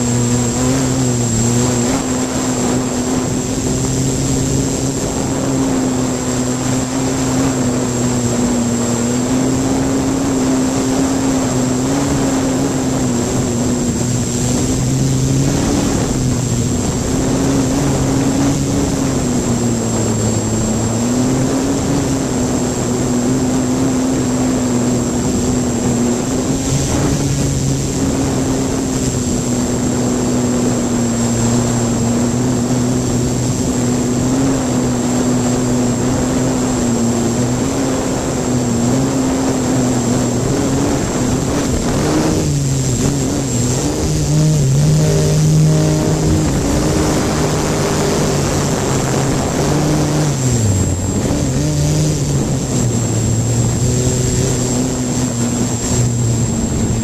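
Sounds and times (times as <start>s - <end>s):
drone propellers droning: 0.0s - 57.0s.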